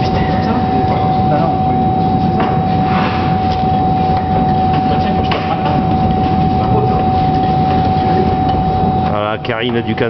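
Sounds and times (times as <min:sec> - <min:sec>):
machinery rumble and whine: 0:00.0 - 0:10.0.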